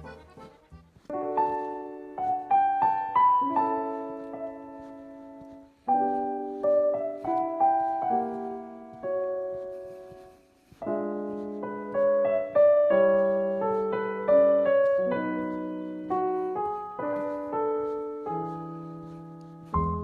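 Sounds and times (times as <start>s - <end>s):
slow solo piano: 1.1s - 20.0s.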